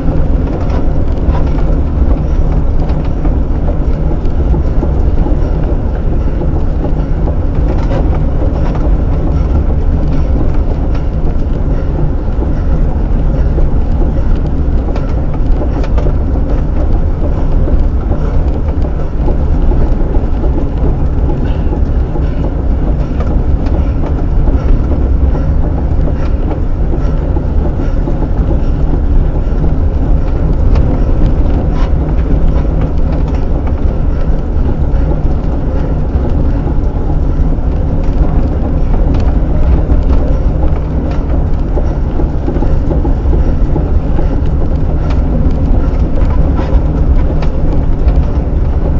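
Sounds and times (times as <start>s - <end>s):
tyres and drivetrain rumbling: 0.0s - 48.9s.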